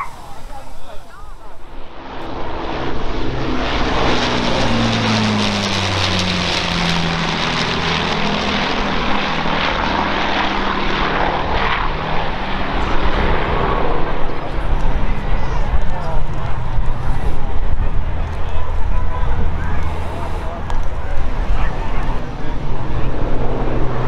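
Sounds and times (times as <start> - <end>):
propeller plane flying overhead: 0.0 - 24.0.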